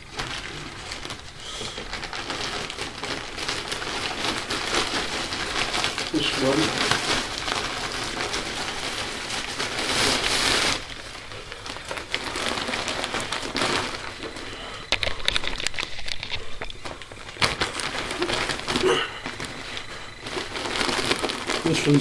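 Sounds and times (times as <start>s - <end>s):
plastic bag rustling: 0.0s - 22.0s
wrapping paper crackling: 0.0s - 22.0s.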